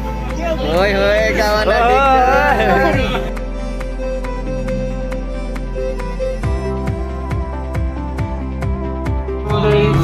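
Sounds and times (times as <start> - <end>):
low bass: 0.0 - 10.0
slow instrumental song: 0.0 - 10.0.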